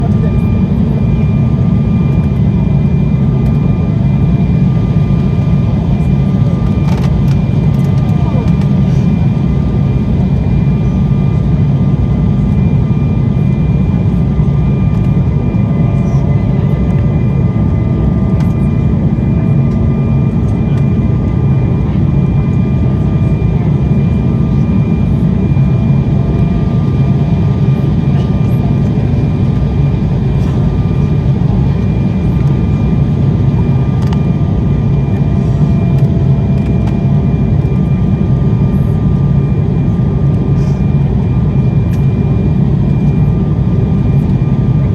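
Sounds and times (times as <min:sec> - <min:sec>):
airliner cabin rumble: 0:00.0 - 0:44.9
turbofan engine whine: 0:00.0 - 0:44.9.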